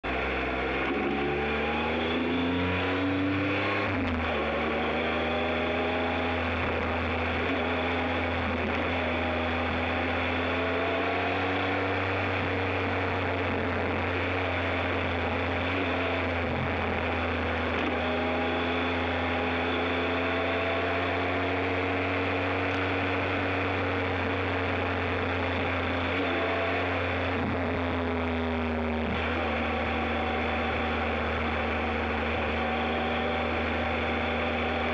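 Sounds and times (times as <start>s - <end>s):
motorcycle engine: 0.0s - 34.9s
tyres on dirt track: 0.0s - 34.9s.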